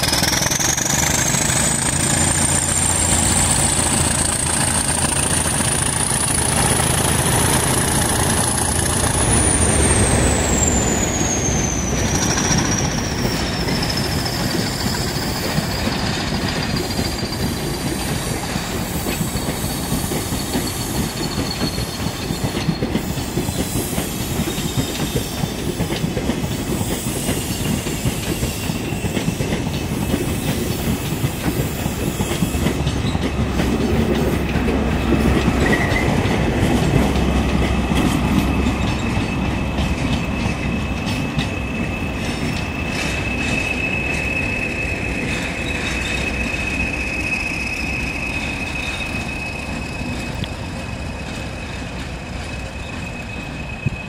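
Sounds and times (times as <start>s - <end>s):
train wheels rumbling over rails: 0.0s - 54.0s.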